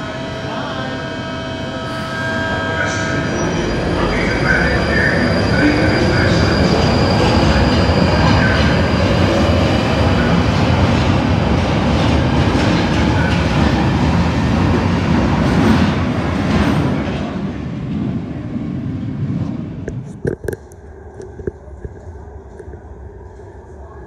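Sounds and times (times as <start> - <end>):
underground train accelerating: 0.0 - 24.0.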